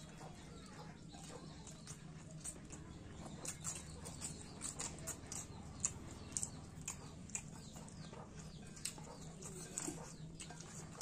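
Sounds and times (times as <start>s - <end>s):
wet chewing and lip smacks: 0.0s - 11.0s.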